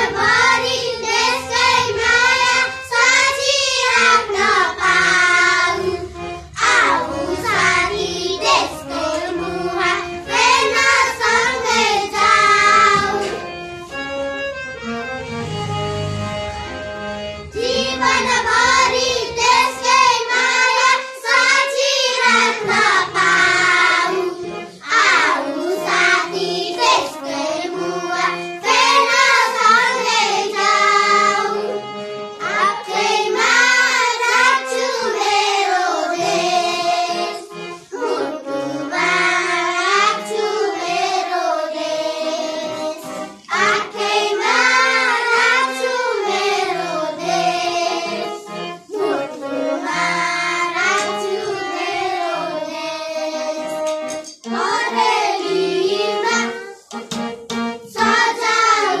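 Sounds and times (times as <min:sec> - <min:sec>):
children singing: 0:00.0 - 0:14.0, 0:16.3 - 0:59.0.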